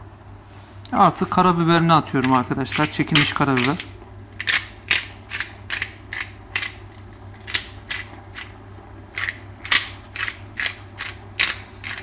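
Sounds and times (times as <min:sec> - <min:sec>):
pepper mill grinding: 0:02.1 - 0:12.0.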